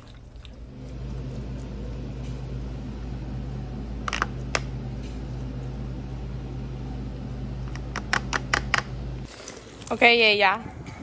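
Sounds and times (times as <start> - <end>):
low room hum: 0.0 - 9.6.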